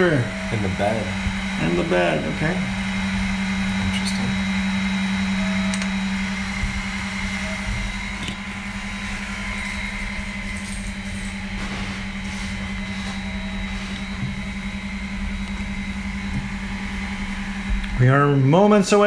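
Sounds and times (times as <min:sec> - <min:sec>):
cooling fans humming: 0:00.0 - 0:19.0.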